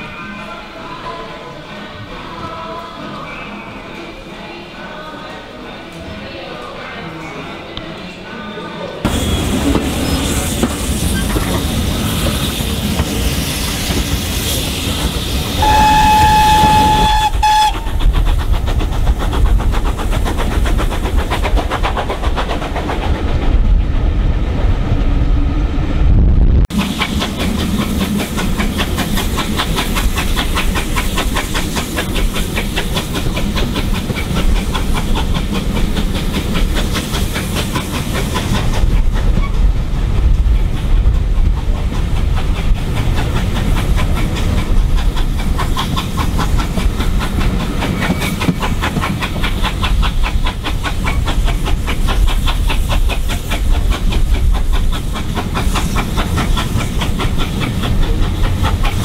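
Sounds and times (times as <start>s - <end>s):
carriage rumble and rail clatter: 9.0s - 59.0s
steam locomotive exhaust beats: 9.1s - 24.1s, 26.6s - 59.0s.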